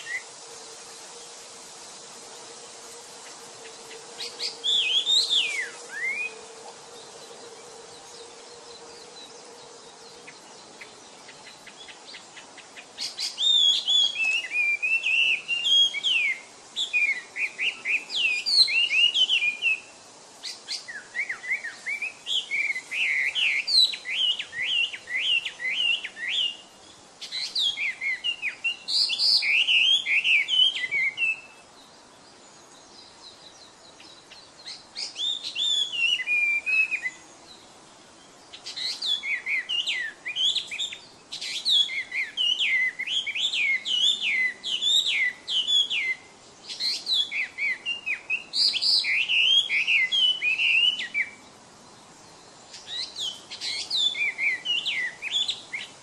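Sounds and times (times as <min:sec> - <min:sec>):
bird singing whistled notes: 0:00.0 - 0:00.3, 0:03.8 - 0:09.4, 0:10.0 - 0:31.7, 0:32.7 - 0:51.5, 0:52.2 - 0:56.0.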